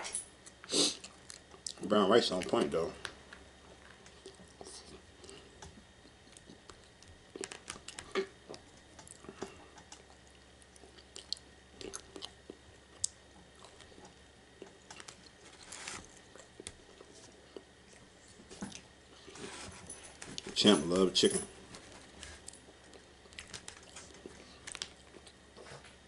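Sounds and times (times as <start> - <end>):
person chewing food: 0.4 - 1.8, 3.7 - 20.5, 21.7 - 26.0.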